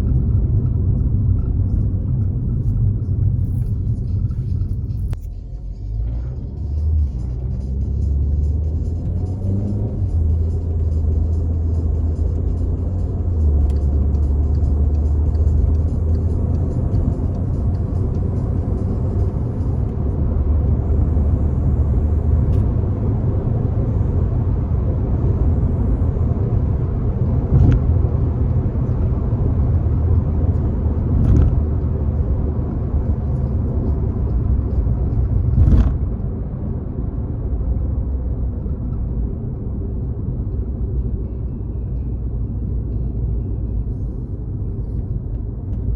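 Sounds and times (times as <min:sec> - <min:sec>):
car engine and road drone: 0:00.0 - 0:45.9.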